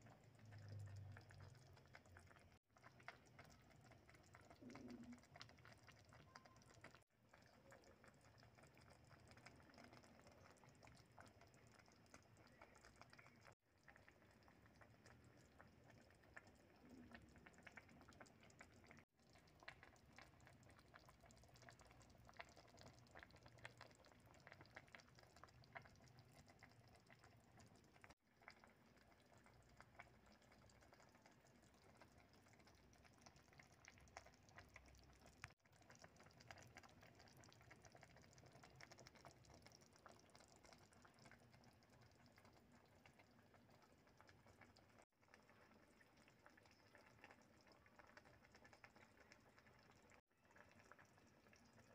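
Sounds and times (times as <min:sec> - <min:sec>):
soup simmering in a pot: 0:00.0 - 0:51.9.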